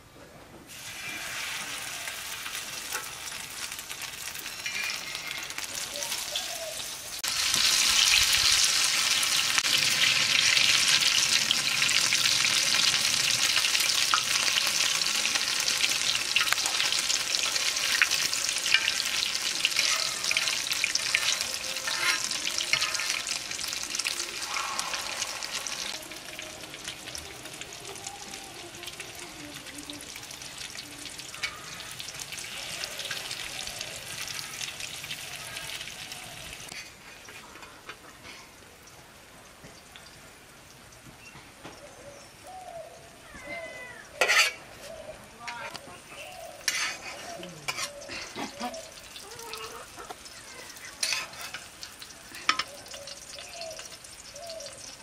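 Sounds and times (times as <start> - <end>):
battered flowers sizzling in oil: 0.7 - 55.0.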